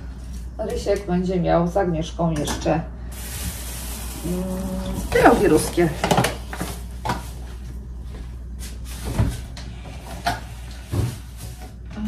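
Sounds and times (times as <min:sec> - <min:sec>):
refrigerator hum: 0:00.0 - 0:12.0.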